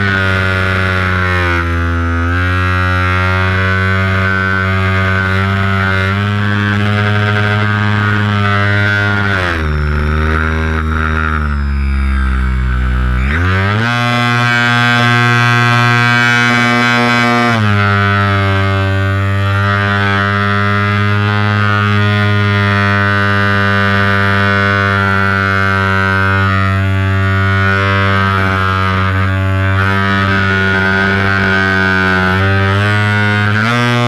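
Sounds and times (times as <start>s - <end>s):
propeller and motor drone: 0.0s - 34.0s.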